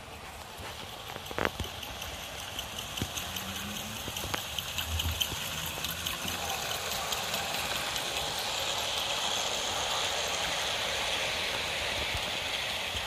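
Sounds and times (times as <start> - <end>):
model train wheels rattling: 0.0 - 13.0.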